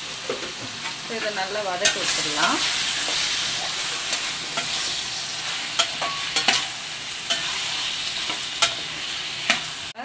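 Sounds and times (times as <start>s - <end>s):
food sizzling in a pan: 0.0s - 10.0s
metal spatula scraping a pan: 1.8s - 9.9s.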